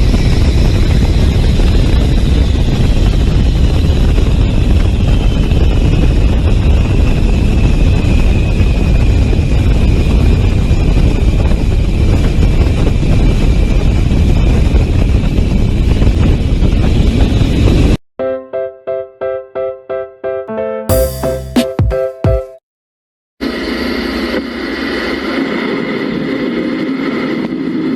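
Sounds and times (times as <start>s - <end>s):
jet aircraft rumble and whine: 0.0s - 18.0s, 23.4s - 27.9s.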